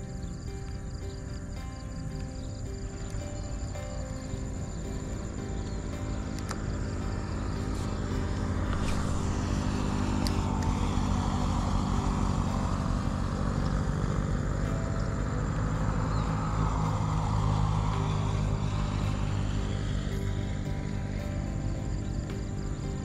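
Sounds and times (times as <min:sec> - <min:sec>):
rushing noise: 0:00.0 - 0:23.0
small engine humming: 0:00.0 - 0:23.0.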